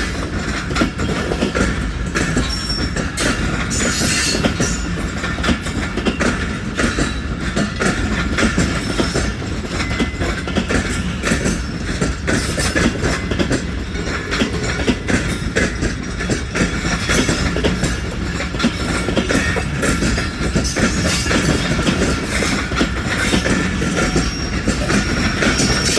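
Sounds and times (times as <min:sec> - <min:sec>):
train coaches rumbling past: 0:00.0 - 0:25.9
wheels clattering over rail joints: 0:00.0 - 0:25.9.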